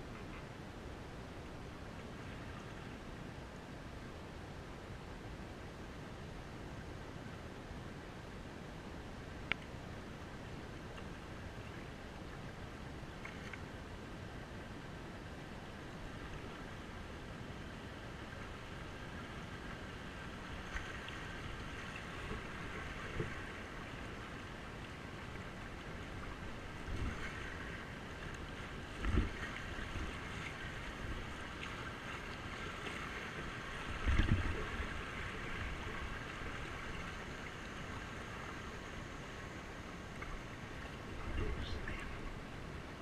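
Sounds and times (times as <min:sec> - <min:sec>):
stream water rushing and splashing: 0:00.0 - 0:43.0.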